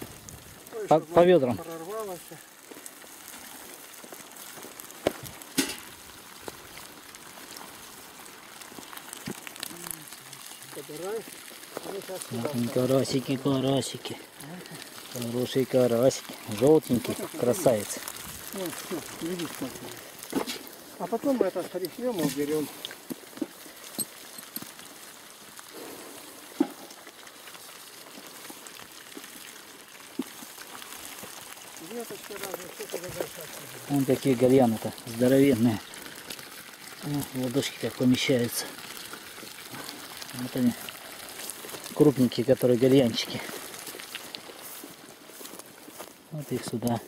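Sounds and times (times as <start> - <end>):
faint outdoor hiss: 0.0 - 47.0.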